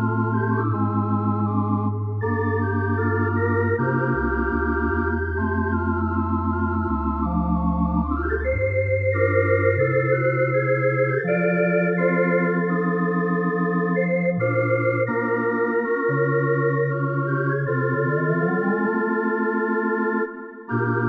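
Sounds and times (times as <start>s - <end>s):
keyboard organ chords and bass: 0.0s - 21.0s.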